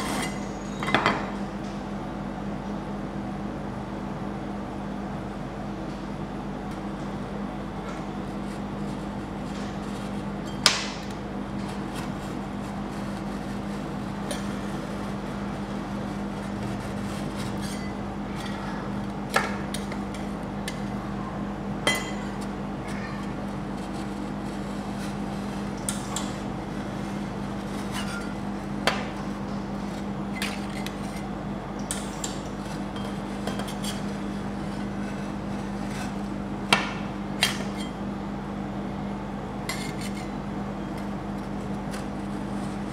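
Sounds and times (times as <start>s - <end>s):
steady hum: 0.0s - 42.9s.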